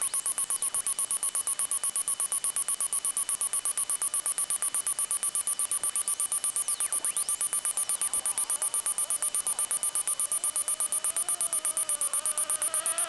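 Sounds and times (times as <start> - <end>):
short high-pitched beeps: 0.0 - 13.0.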